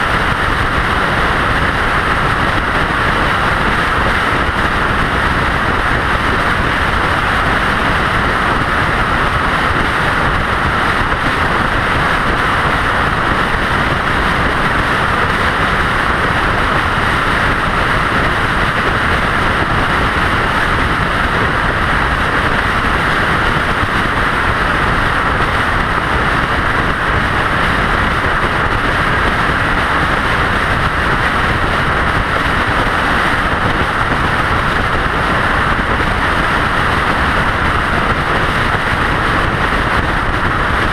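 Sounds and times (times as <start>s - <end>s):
road and wind noise: 0.0s - 40.9s.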